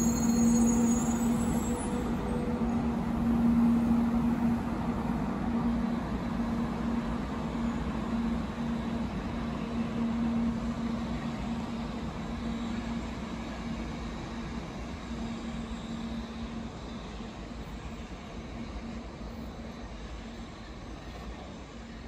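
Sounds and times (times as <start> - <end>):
train rumbling away slowly: 0.0 - 22.0.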